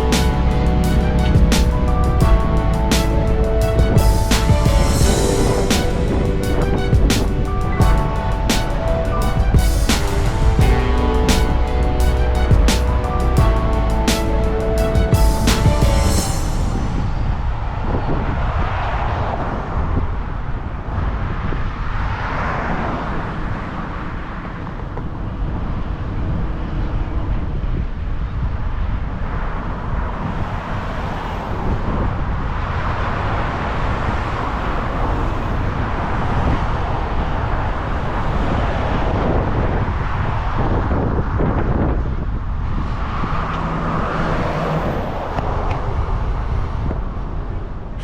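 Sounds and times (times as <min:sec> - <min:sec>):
car road and wind noise: 0:00.0 - 0:48.0.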